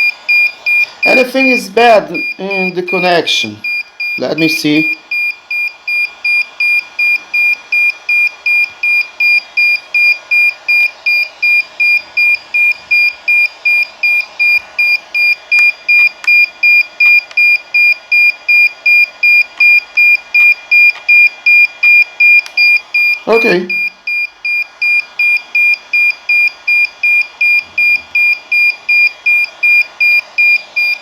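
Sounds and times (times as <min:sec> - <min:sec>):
drone beeping: 0:00.0 - 0:31.0.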